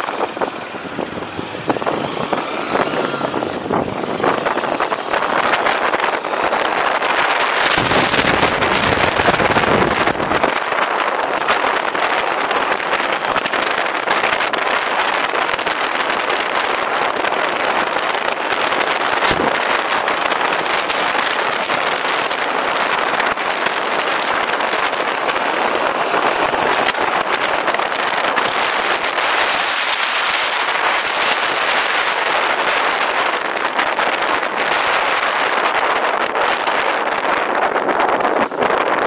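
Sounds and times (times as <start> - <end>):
wind and road noise: 0.0 - 39.0.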